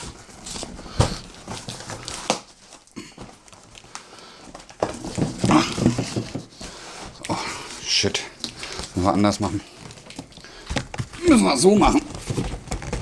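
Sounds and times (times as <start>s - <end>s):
cardboard rustling and scraping: 0.0s - 13.0s.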